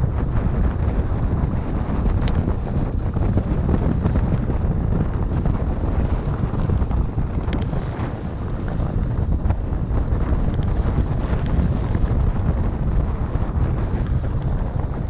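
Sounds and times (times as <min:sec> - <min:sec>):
mountain bike rolling on dirt: 0:00.0 - 0:15.0
wind buffeting microphone: 0:00.0 - 0:15.0.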